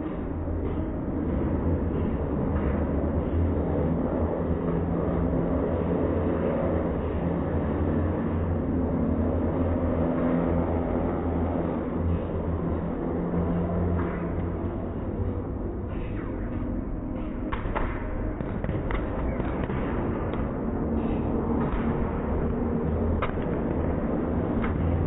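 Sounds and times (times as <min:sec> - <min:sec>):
car engines running: 0:00.0 - 0:25.0.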